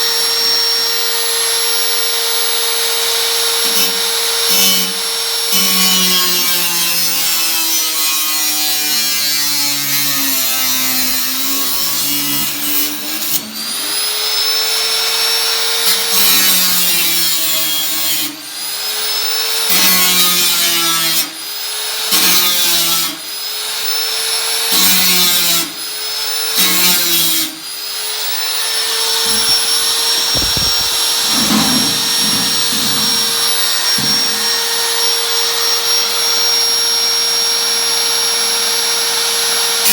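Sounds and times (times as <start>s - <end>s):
power tool cutting sheet metal: 0.0s - 39.9s.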